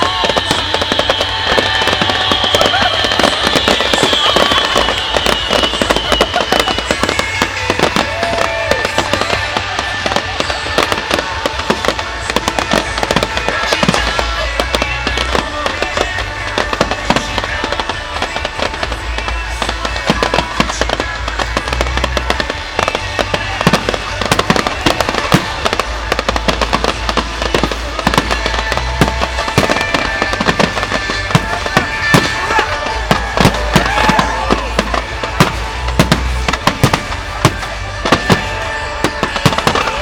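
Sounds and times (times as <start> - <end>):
fireworks crackling and banging: 0.0 - 40.0
music: 0.0 - 40.0
whistling firework: 0.0 - 40.0.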